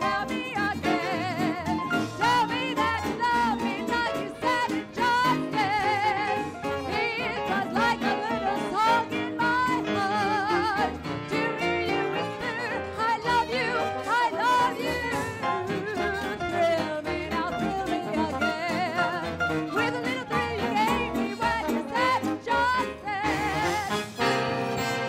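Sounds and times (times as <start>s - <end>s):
big band swing music: 0.0s - 25.0s.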